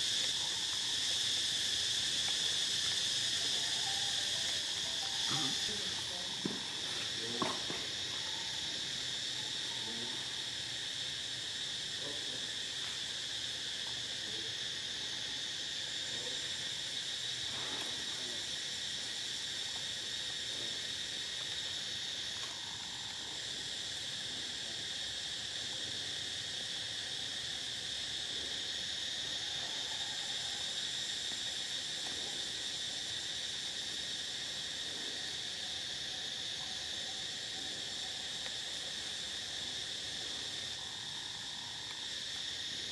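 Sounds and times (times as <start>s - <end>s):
insect chorus shrilling: 0.0s - 42.9s.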